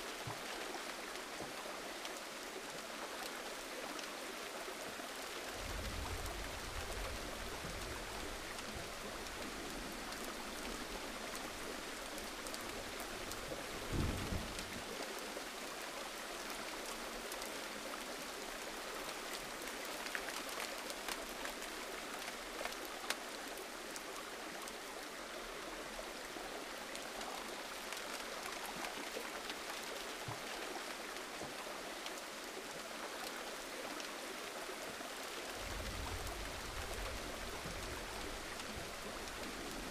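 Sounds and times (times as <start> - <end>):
gentle rain with ticking drops: 0.0 - 39.9.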